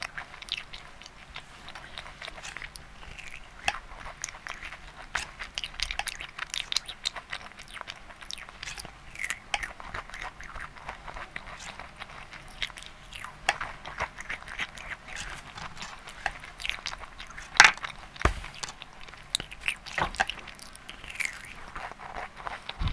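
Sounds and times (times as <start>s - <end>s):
chewing and biting sweet: 0.0s - 22.9s.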